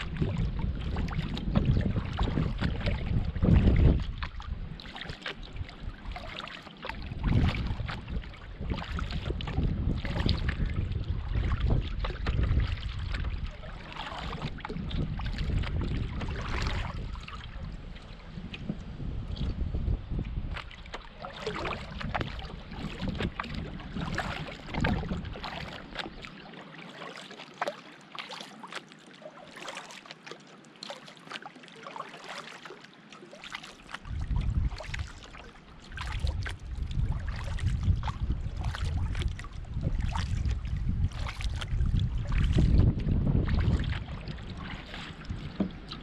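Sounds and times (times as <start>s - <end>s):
wind rumble on microphone: 0.0s - 26.3s, 33.9s - 46.0s
paddle splashing in water: 0.0s - 46.0s.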